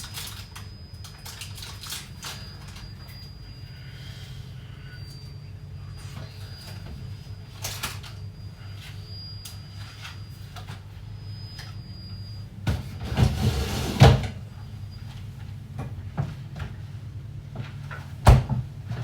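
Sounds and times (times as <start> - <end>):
steady low hum: 0.7 - 19.0.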